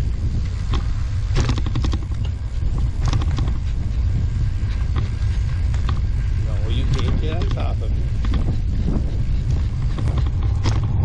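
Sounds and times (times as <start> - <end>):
trike rolling rumble: 0.0 - 11.0
wind on microphone: 0.0 - 11.0
light clicks and rattles: 0.4 - 11.0.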